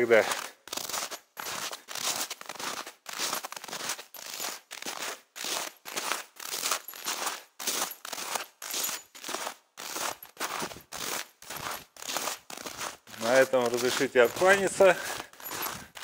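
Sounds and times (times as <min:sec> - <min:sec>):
footsteps crunching through snow: 0:00.0 - 0:16.0.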